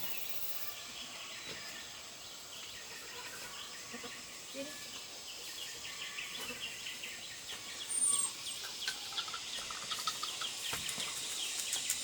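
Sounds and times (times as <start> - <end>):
chickens chirping: 0.0 - 12.0.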